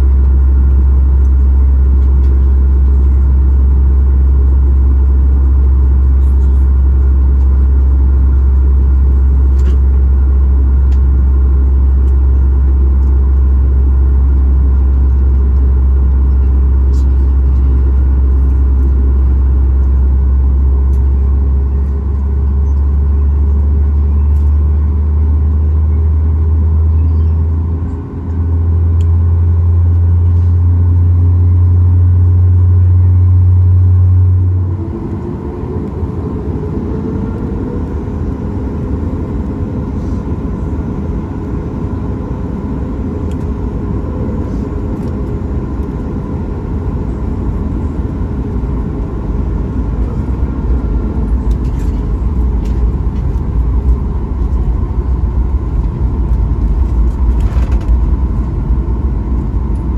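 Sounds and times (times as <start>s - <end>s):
airplane cabin hum: 0.0s - 59.9s
cabin rumble: 0.0s - 59.9s.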